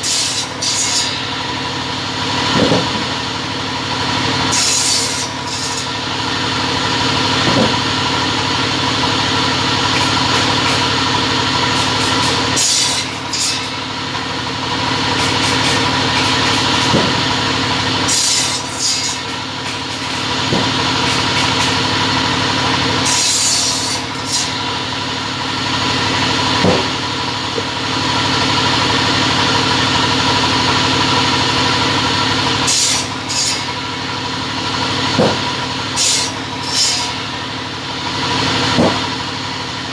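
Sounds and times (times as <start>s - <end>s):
cutting machine motor hum: 0.0s - 39.9s.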